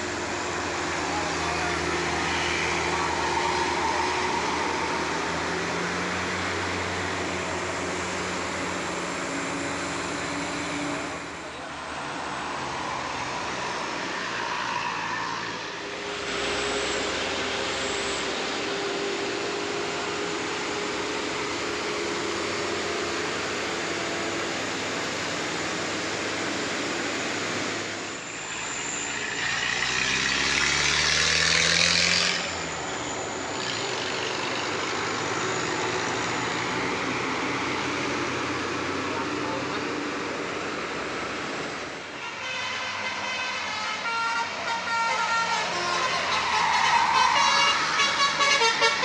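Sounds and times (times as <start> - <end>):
bus engine climbing uphill: 0.0 - 49.0.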